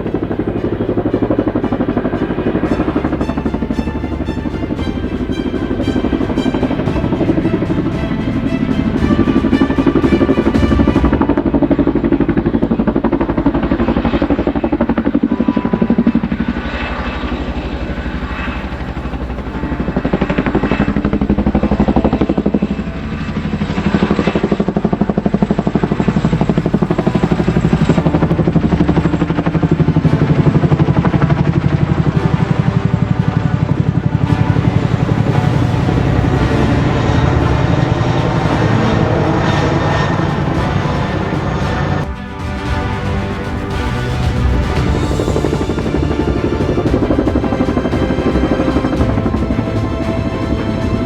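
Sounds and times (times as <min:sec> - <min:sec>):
helicopter rotor blades chopping: 0:00.0 - 0:51.0.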